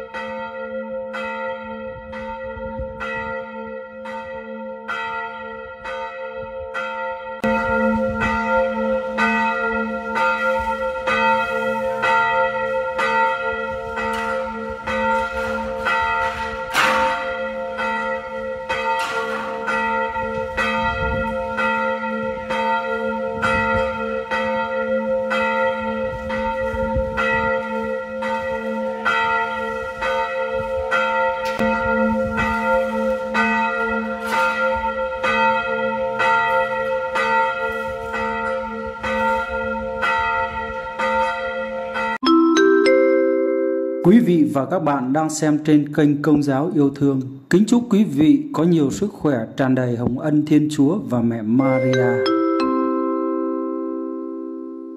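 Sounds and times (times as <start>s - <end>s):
church bells ringing: 0.0s - 47.2s, 51.1s - 54.9s.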